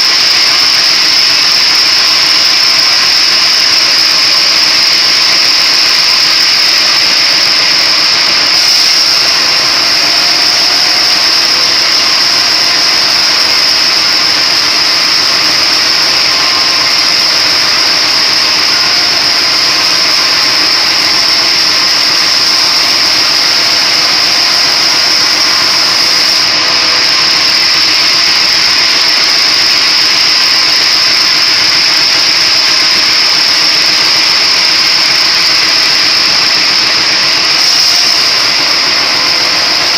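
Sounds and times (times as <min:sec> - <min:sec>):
high machine whine: 0:00.0 - 0:39.9
splitting machine running: 0:00.0 - 0:39.9.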